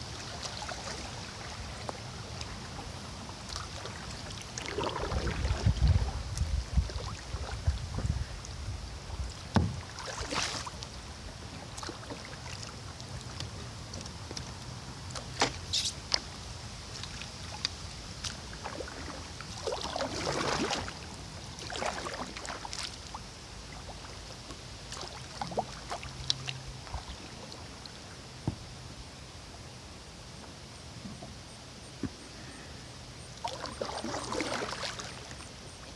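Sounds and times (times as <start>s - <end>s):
paddle swishing through water: 0.0s - 32.5s, 33.4s - 35.9s.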